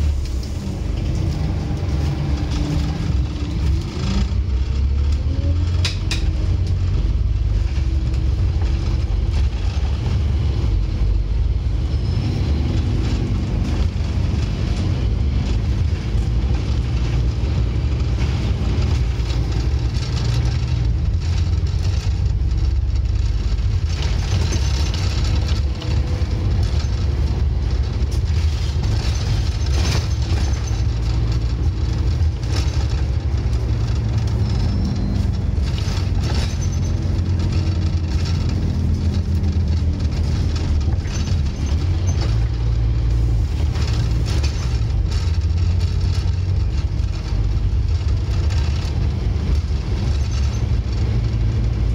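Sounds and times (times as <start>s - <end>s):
bus diesel engine droning: 0.0s - 51.9s.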